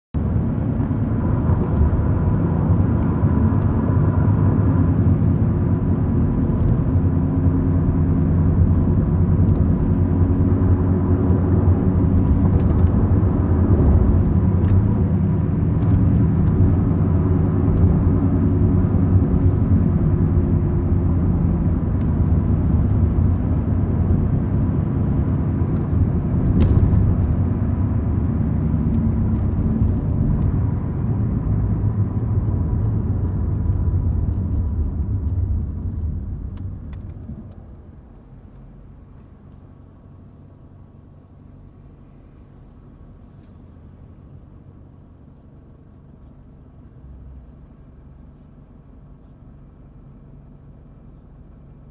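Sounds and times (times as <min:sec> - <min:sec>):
car engine and road rumble: 0:00.1 - 0:51.9.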